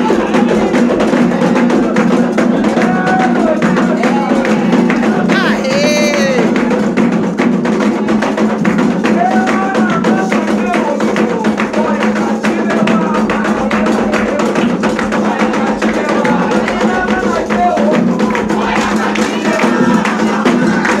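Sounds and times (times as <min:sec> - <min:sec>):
hand drums beating fast: 0:00.0 - 0:21.0
people singing: 0:00.0 - 0:21.0.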